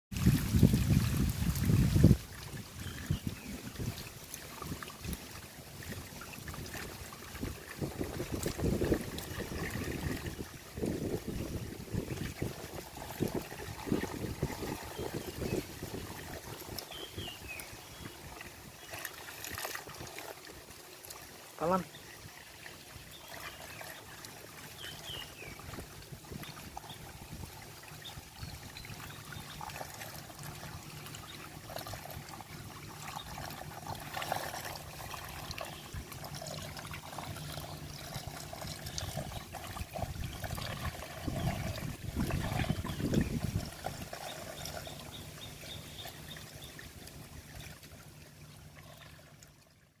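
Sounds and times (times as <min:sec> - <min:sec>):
water splashing: 0:00.1 - 0:50.0
water trickling and pouring: 0:00.1 - 0:50.0.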